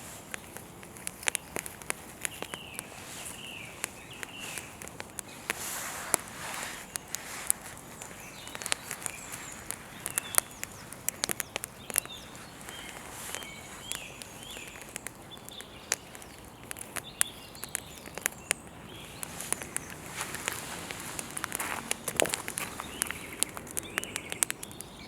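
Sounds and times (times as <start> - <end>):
birds chirping: 0.0 - 25.0
campfire crackling and popping: 0.0 - 25.0.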